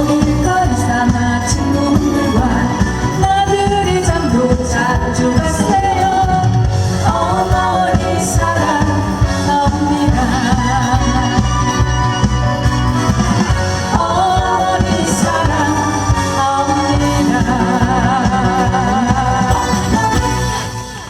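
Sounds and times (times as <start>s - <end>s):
person singing: 0.0s - 12.6s, 13.3s - 20.8s
band playing with steady beat: 0.0s - 21.0s.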